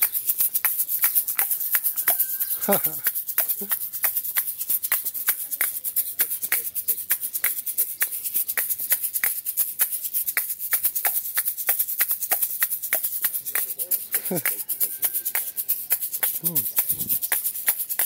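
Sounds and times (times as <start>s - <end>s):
hand shakers rattling: 0.0s - 18.0s.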